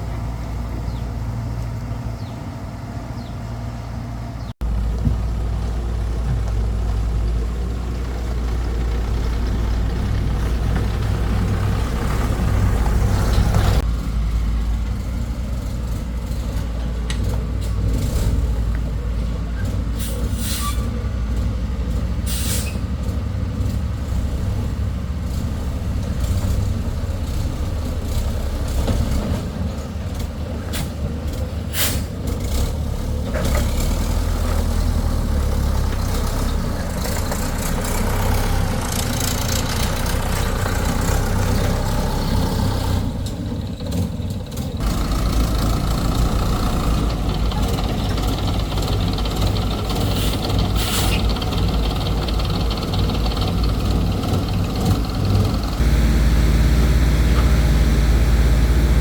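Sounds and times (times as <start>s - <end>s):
excavator engine running: 0.0s - 20.5s, 22.9s - 59.0s.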